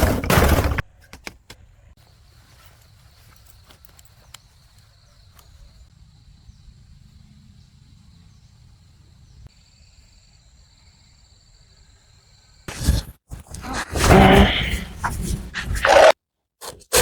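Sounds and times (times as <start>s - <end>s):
insects droning: 1.6s - 16.1s.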